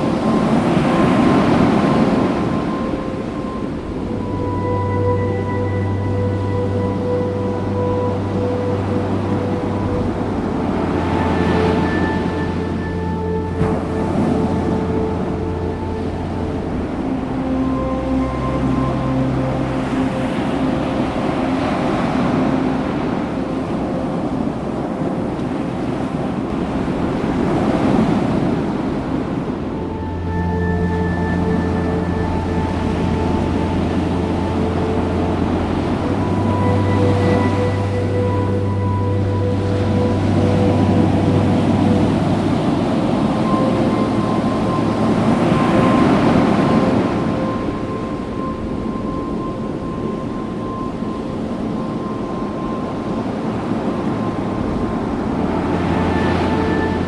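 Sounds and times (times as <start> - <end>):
faint held tones: 0.0 - 57.0
ocean surf on beach: 0.0 - 57.0
wind on microphone: 0.0 - 57.0.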